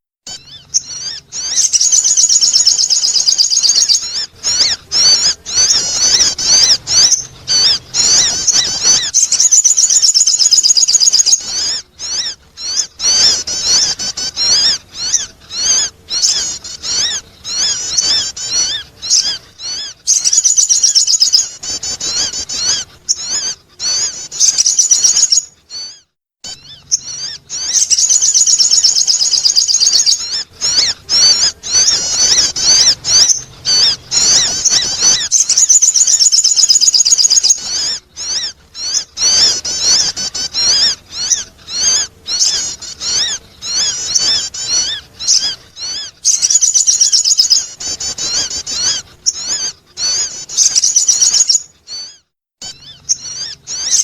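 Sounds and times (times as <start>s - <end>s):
high twittering bird chirps: 0.0s - 54.0s.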